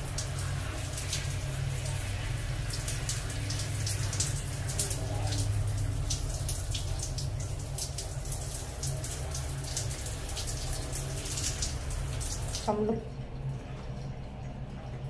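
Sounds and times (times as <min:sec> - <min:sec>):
shower water splashing: 0:00.0 - 0:15.0.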